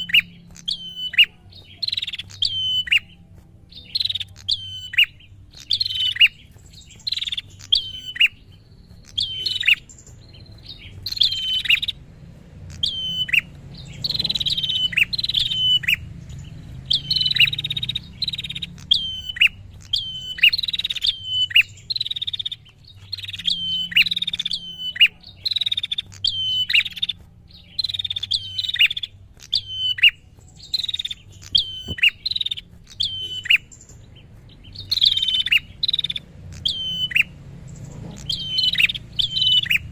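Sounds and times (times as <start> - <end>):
bird chirping in chattering bursts: 0.0 - 39.9.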